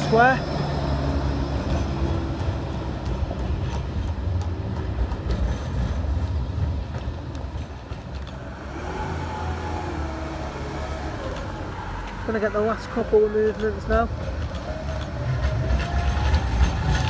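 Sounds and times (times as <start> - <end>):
electric tram humming: 0.0 - 17.0
wheels clicking over track: 0.0 - 17.0.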